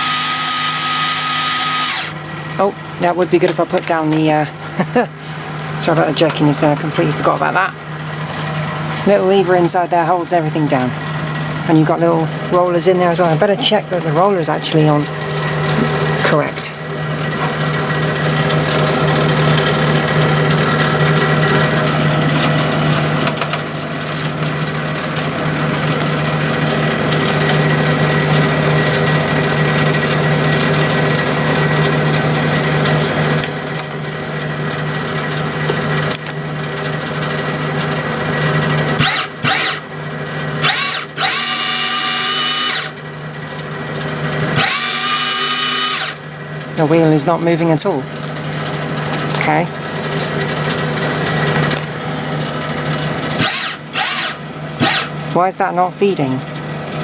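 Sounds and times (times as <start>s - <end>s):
welder motor whine and hum: 0.0s - 47.0s, 48.2s - 55.4s.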